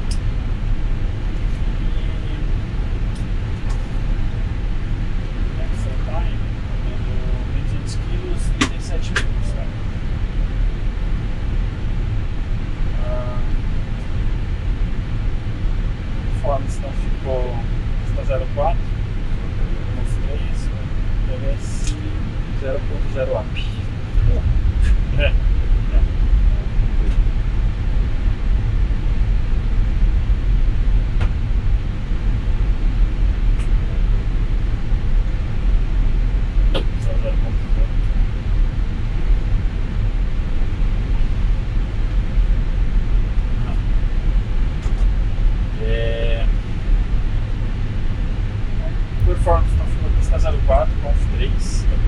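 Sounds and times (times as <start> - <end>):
low cockpit rumble: 0.0 - 52.0
ventilation air rushing: 0.0 - 52.0.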